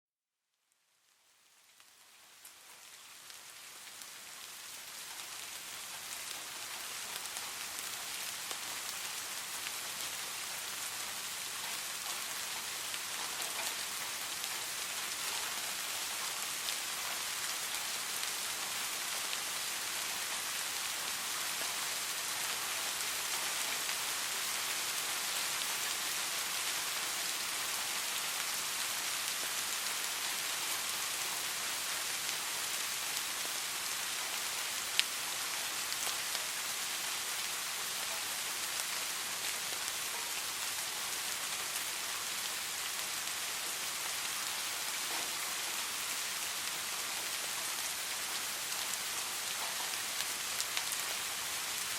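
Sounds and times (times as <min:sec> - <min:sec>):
soft rain falling: 0:00.4 - 0:51.9.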